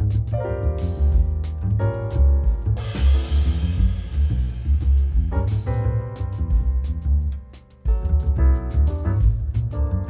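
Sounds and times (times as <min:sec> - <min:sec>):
background music with bass and drums: 0:00.0 - 0:10.0.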